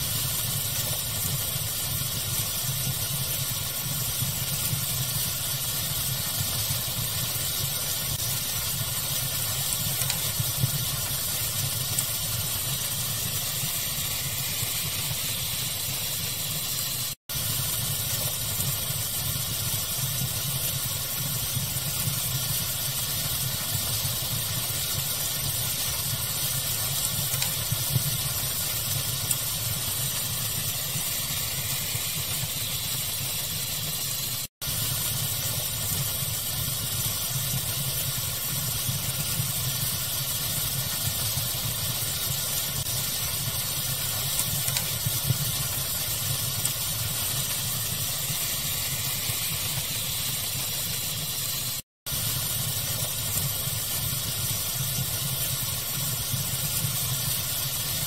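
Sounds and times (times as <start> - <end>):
fire crackling: 0.0 - 58.0
steady hiss: 0.0 - 58.0.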